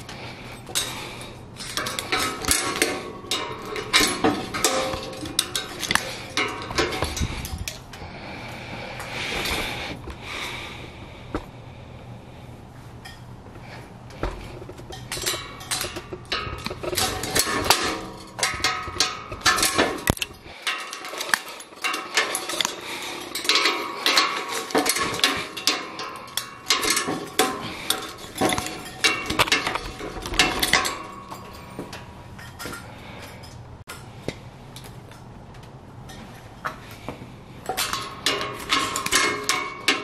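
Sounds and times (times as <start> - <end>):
wire and pliers clinking on rebar: 0.0 - 11.8, 13.0 - 40.0.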